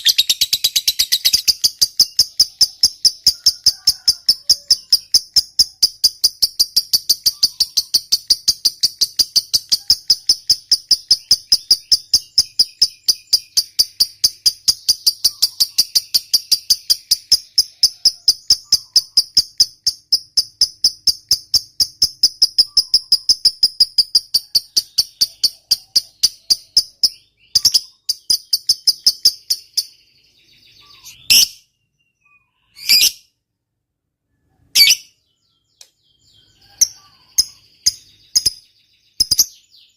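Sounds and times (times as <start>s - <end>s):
lovebird chatter: 0.0s - 31.6s, 34.7s - 39.9s.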